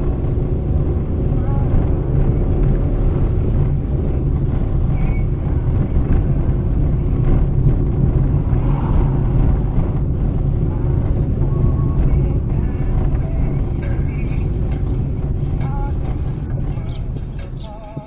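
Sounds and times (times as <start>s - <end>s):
car engine and road noise: 0.0s - 18.0s
faint music: 0.0s - 18.0s.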